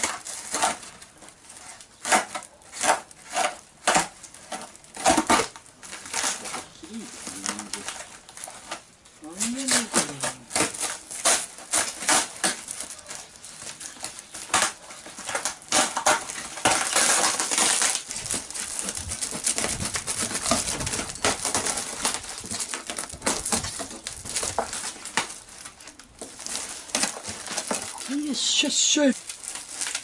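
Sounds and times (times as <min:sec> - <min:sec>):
cardboard box being torn open: 0:00.0 - 0:30.0
plastic wrap crackling: 0:00.0 - 0:30.0.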